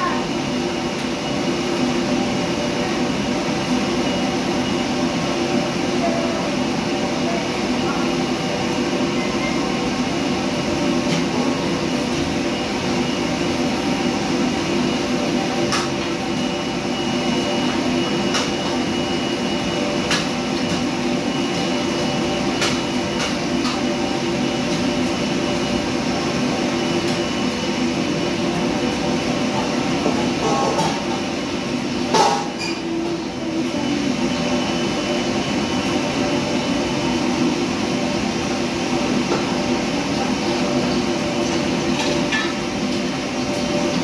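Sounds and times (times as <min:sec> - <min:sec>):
gas burner running: 0:00.0 - 0:44.0.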